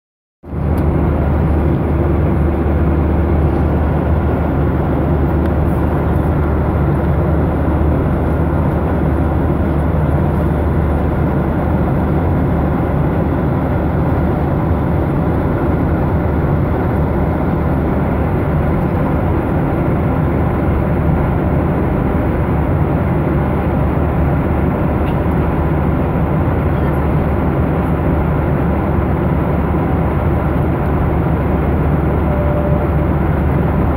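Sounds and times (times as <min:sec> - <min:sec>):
low engine drone: 0:00.4 - 0:33.9
jet airliner cabin noise: 0:00.5 - 0:33.9.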